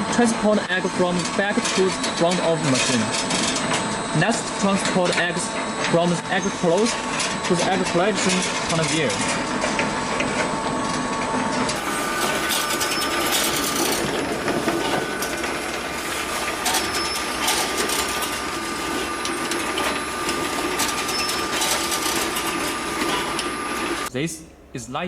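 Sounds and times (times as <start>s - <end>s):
egg conveyor machine clattering: 0.0s - 10.5s, 11.7s - 24.1s
constant machine whine: 0.0s - 25.0s.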